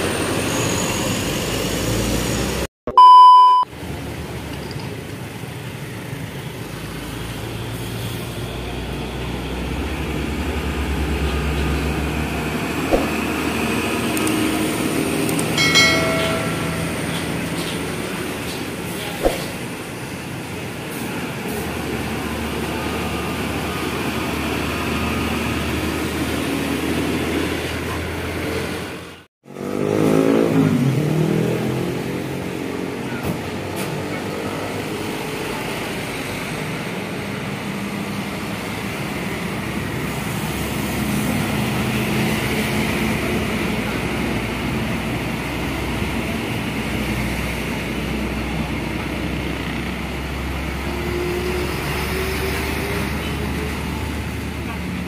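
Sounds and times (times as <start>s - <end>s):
trucks and motorcycles passing: 3.5s - 55.0s
loud engine passing close: 5.6s - 55.0s.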